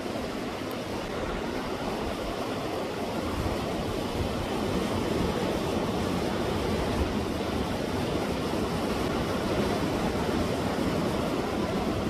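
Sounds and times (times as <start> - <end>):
sea waves surging against rocks: 0.0 - 12.0.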